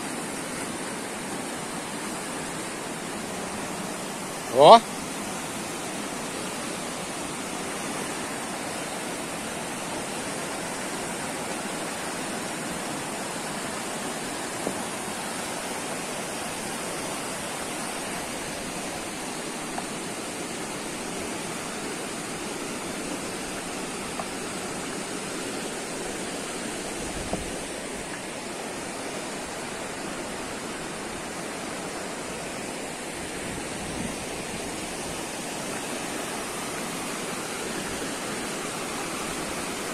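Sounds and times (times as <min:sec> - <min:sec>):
river rushing over rapids: 0:00.0 - 0:39.9.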